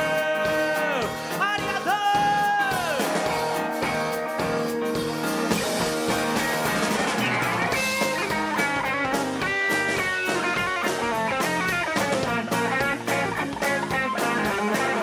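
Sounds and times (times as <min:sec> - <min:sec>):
bass: 0:00.0 - 0:15.0
drums with steady beat: 0:00.0 - 0:15.0
electric guitar line: 0:00.0 - 0:15.0
live rock band playing: 0:00.0 - 0:15.0.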